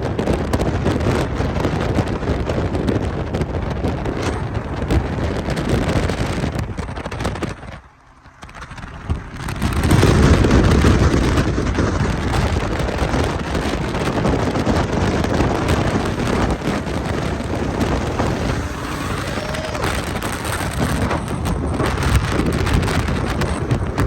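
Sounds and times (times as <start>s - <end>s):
road and engine noise: 0.0s - 24.0s
wind rushing through car window: 0.0s - 24.0s.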